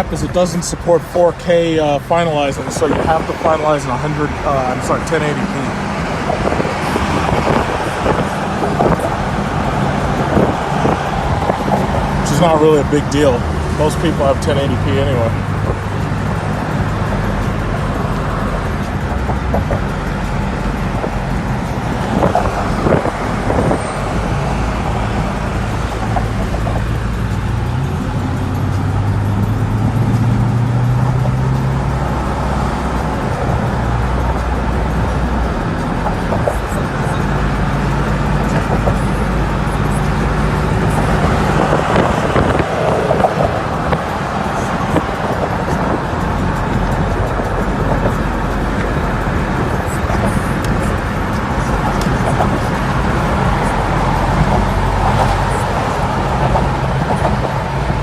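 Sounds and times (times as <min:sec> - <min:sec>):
car engine accelerating: 0:00.0 - 0:58.0
road noise: 0:00.0 - 0:58.0.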